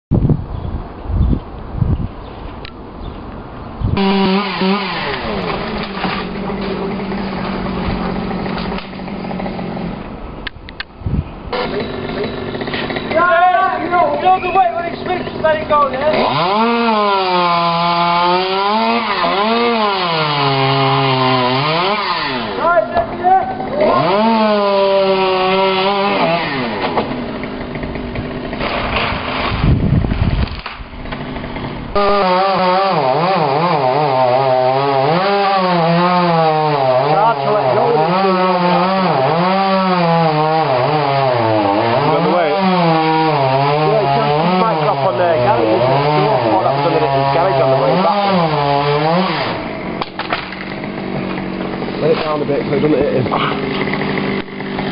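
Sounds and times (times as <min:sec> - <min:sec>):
chainsaw cutting wood: 0:04.0 - 0:10.5, 0:11.5 - 0:54.9.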